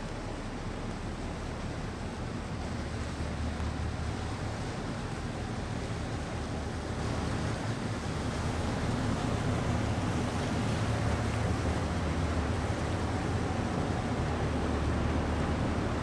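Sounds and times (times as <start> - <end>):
wind and water hiss: 0.0 - 16.0.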